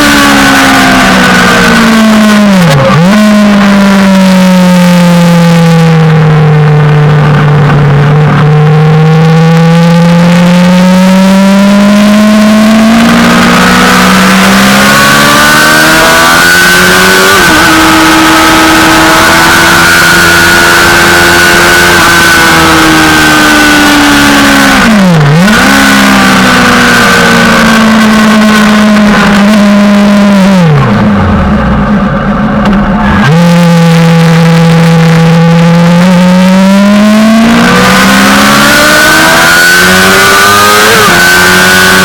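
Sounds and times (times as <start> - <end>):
motorcycle engine revving high: 0.0 - 42.0.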